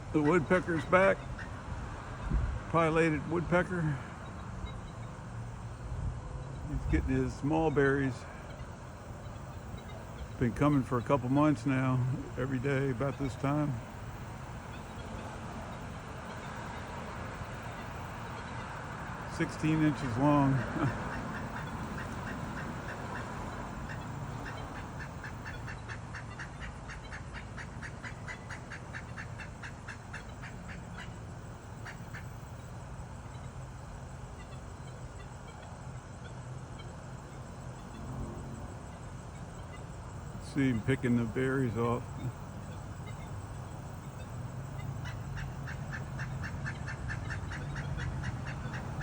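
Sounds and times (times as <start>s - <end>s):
woodpecker calling: 0.0s - 1.6s, 3.0s - 5.8s, 6.4s - 38.1s, 38.7s - 49.0s
steady low hum: 0.0s - 49.0s.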